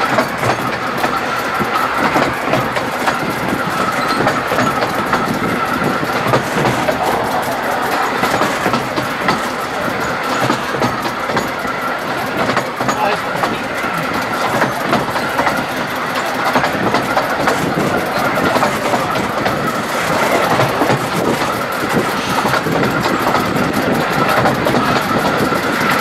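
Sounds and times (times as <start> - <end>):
clicking over rail joints: 0.0 - 26.0
train wheels and carriages rattling: 0.0 - 26.0.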